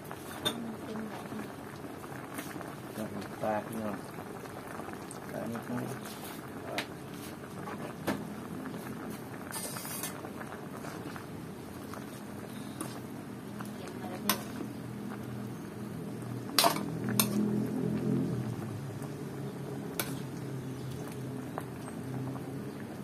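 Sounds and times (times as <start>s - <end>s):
broth bubbling at the boil: 0.0s - 23.0s.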